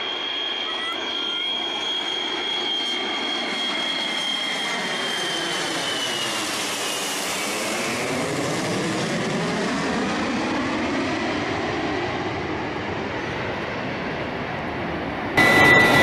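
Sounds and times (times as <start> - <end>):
jet aircraft passing overhead: 0.0 - 16.0.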